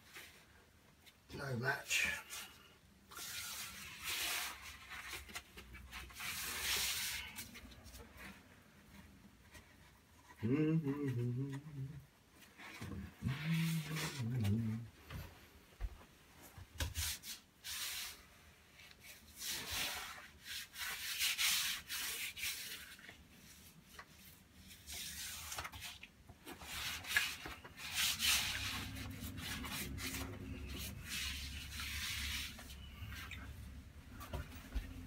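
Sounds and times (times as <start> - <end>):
brush swishing on wallpaper: 2.0 - 10.3, 12.4 - 35.0.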